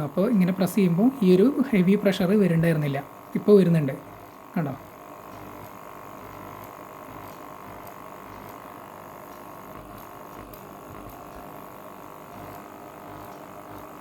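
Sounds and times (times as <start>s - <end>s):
aquarium air pump buzzing: 0.0s - 14.0s.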